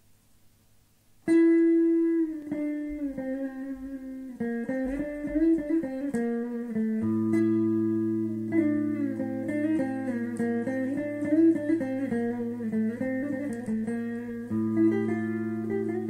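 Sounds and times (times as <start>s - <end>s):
plucked string music: 1.3s - 16.0s.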